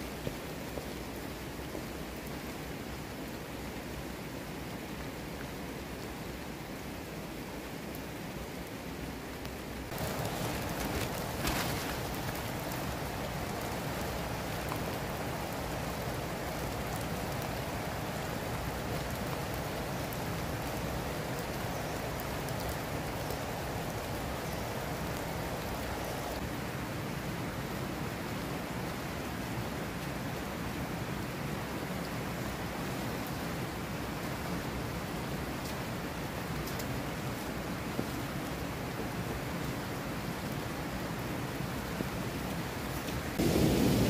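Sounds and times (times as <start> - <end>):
rain falling on leaves: 0.0 - 44.0.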